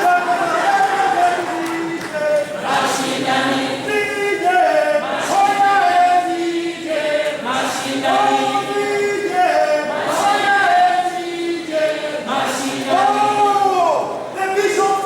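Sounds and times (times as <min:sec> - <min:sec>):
group singing unaccompanied chant: 0:00.1 - 0:14.1.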